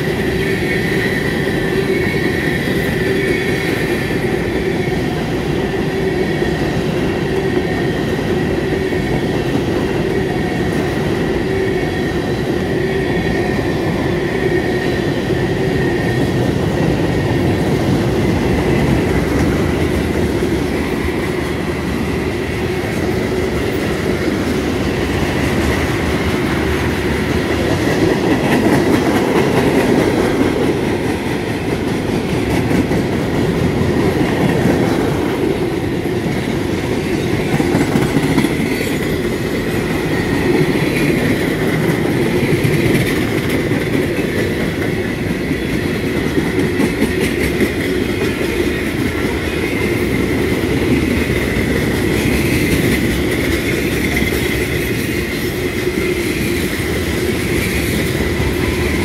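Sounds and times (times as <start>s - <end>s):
train wheels rumbling and clattering: 0.0s - 59.0s.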